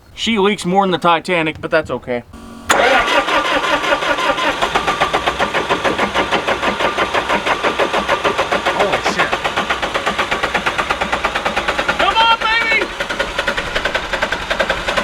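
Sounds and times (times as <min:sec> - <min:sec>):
starter cranking engine: 0:02.4 - 0:15.0.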